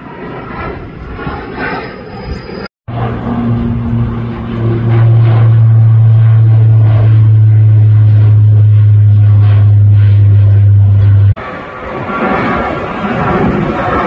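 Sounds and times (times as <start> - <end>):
turboprop aircraft drone: 0.0 - 14.0.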